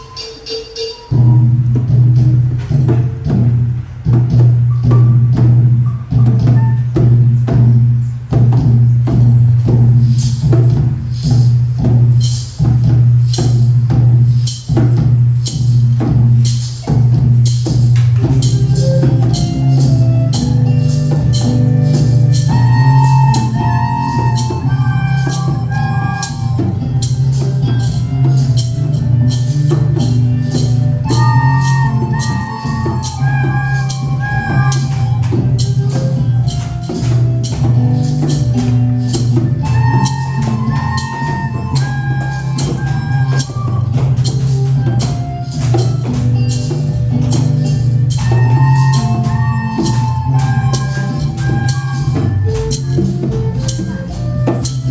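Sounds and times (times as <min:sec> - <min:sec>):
music with percussion beat: 0:00.0 - 0:54.9.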